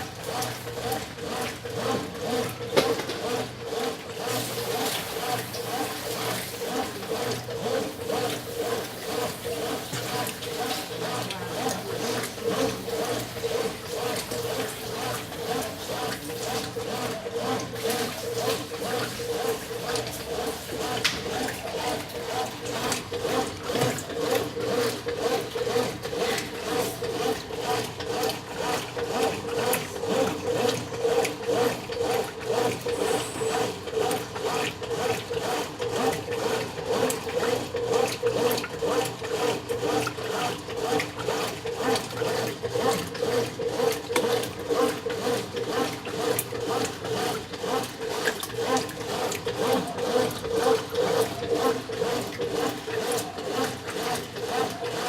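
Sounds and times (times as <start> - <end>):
washing machine agitating clothes: 0.0 - 55.0.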